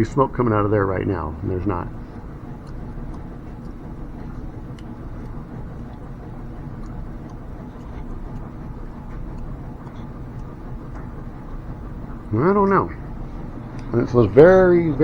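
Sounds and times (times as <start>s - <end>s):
air pump humming: 0.0s - 15.0s.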